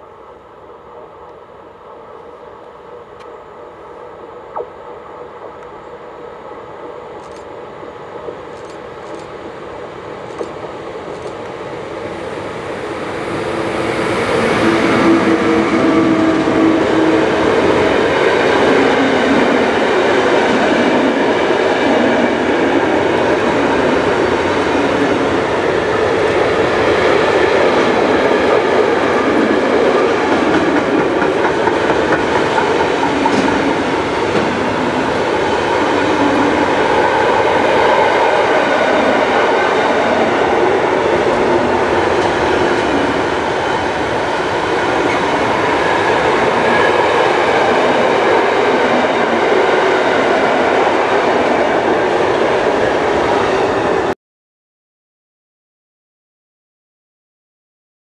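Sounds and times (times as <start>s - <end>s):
freight train wheels on rails: 0.9s - 54.1s.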